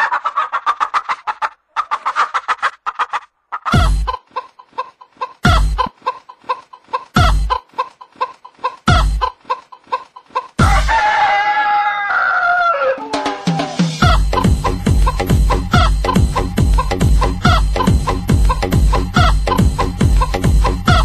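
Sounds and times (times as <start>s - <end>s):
chicken cluck samples: 0.0s - 13.0s, 14.0s - 16.5s, 17.2s - 21.0s.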